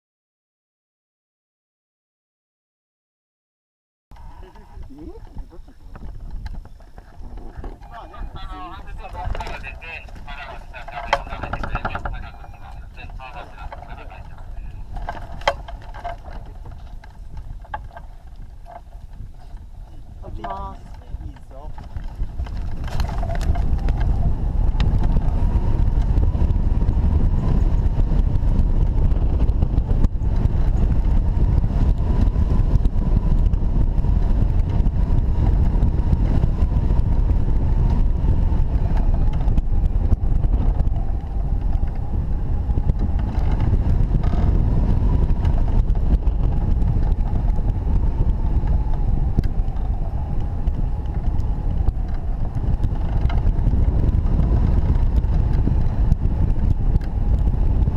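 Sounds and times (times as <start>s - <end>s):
wind rumbling on microphone: 4.1s - 57.9s.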